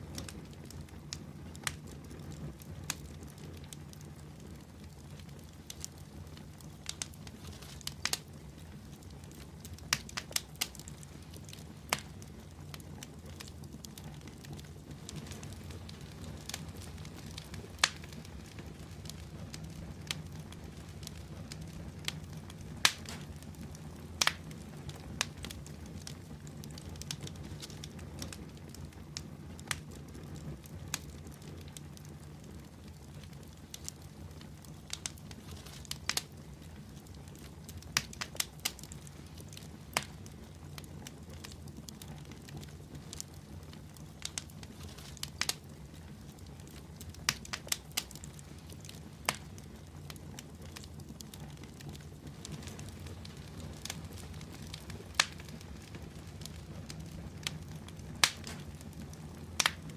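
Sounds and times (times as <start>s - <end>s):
low rush of flames: 0.0s - 59.9s
wood fire crackling and popping: 0.0s - 59.9s.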